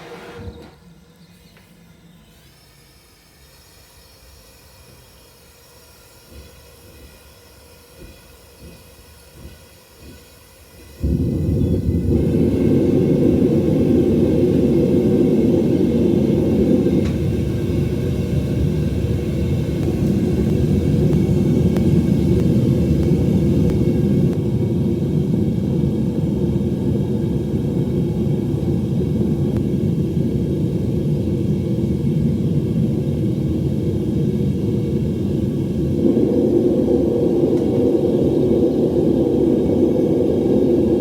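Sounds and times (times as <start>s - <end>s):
furnace burner rumbling: 0.0s - 41.0s.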